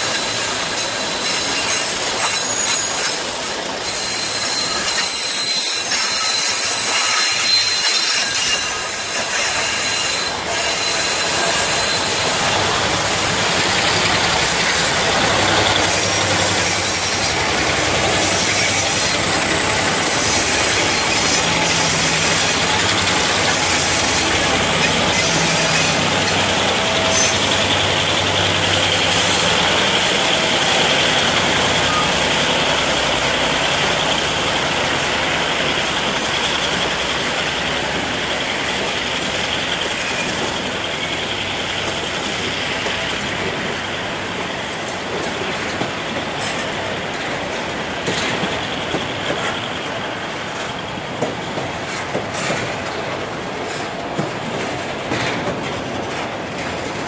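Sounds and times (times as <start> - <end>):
diesel locomotive hum: 0.0 - 57.0
train wheels rumbling on rail: 0.0 - 57.0
wheels clacking over rail joints: 0.0 - 57.0.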